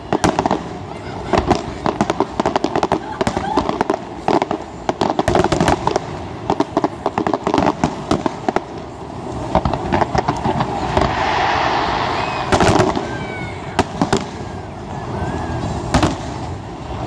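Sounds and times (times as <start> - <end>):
fireworks cracks and bangs: 0.0 - 17.0
rising hiss of firework: 0.0 - 17.0.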